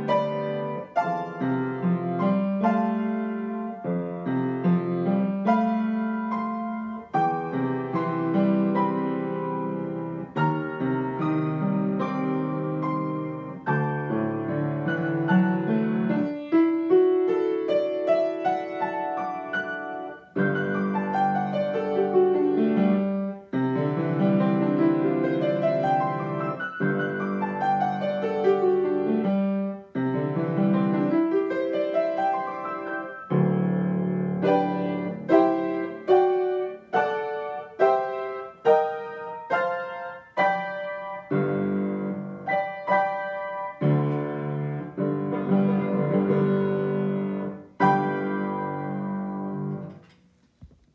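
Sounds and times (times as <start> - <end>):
solo piano playing: 0.0 - 50.9.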